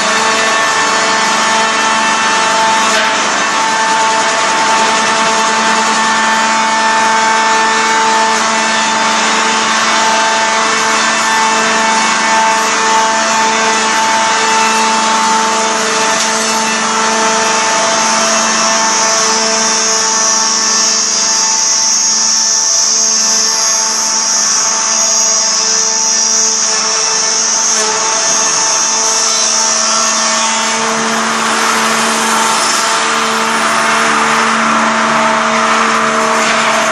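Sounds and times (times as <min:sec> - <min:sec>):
machine motor humming: 0:00.0 - 0:36.9
saw blades whining: 0:00.0 - 0:36.9.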